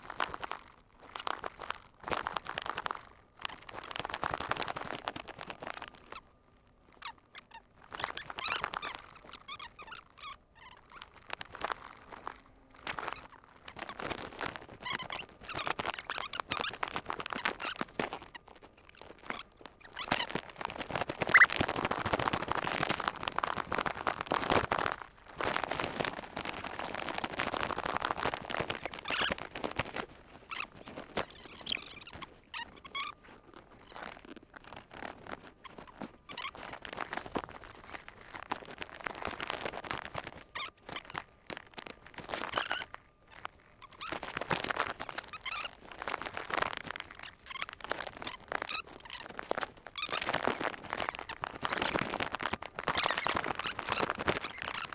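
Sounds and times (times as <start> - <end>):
crunching of dry leaves: 0.0 - 54.9
twigs cracking and squeaking: 0.0 - 54.9.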